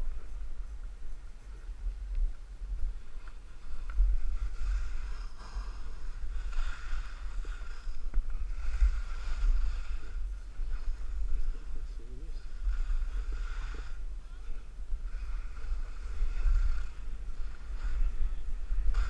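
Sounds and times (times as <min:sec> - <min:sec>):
wind rumbling on microphone: 0:00.0 - 0:19.0
ski edges scraping snow: 0:02.9 - 0:19.0.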